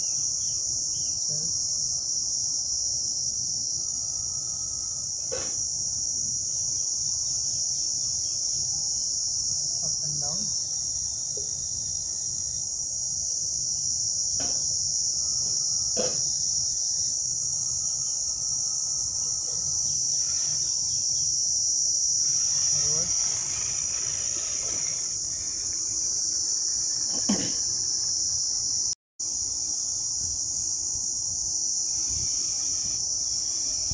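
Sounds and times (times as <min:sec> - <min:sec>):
insects buzzing: 0:00.0 - 0:33.9.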